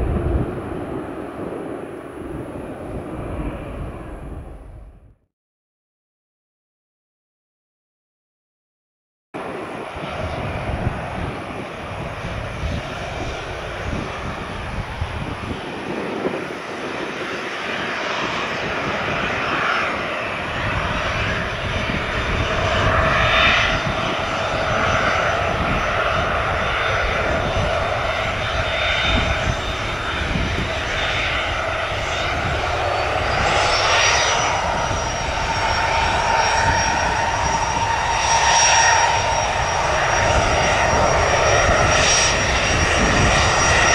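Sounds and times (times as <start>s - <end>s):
jet engines roaring and whining: 0.0s - 5.1s, 9.4s - 43.9s.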